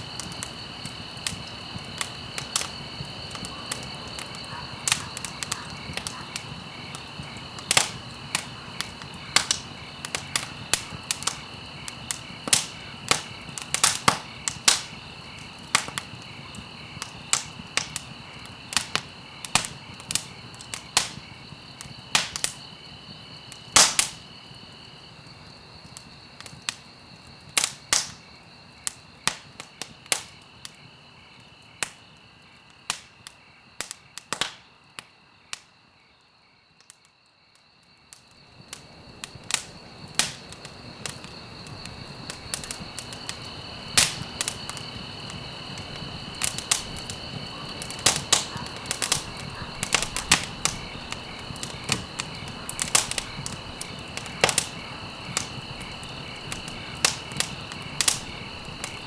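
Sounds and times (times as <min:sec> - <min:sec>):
wood fire crackling and popping: 0:00.0 - 0:35.7, 0:38.1 - 0:59.0.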